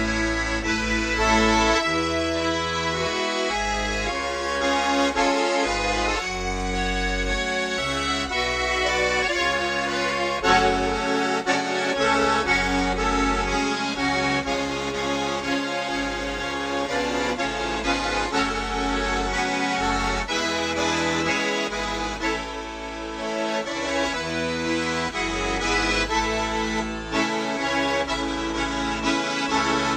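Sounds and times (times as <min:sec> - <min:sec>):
accordion folk music: 0:00.0 - 0:29.9.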